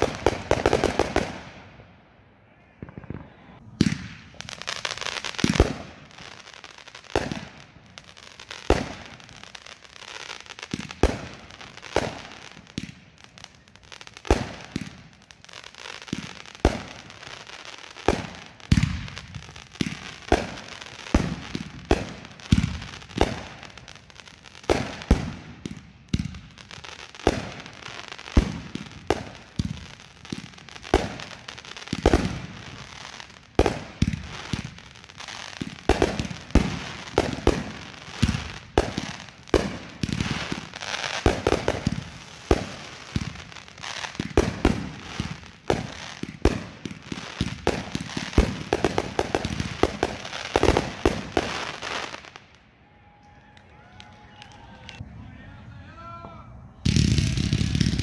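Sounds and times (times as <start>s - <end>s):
fireworks bangs: 0.0s - 1.9s, 2.5s - 52.6s, 56.2s - 58.0s
fireworks crackling: 0.0s - 1.9s, 2.5s - 52.7s, 53.4s - 55.4s, 56.7s - 58.0s.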